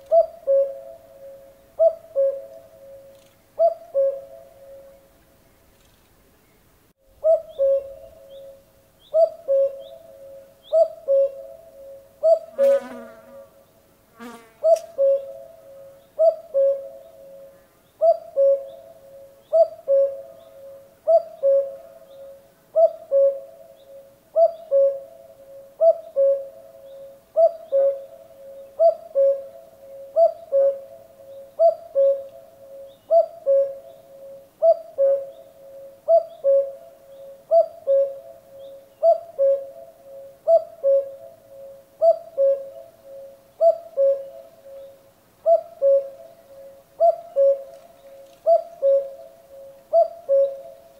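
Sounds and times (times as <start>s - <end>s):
cuckoo calling: 0.0s - 5.2s, 7.2s - 12.8s, 14.6s - 50.9s.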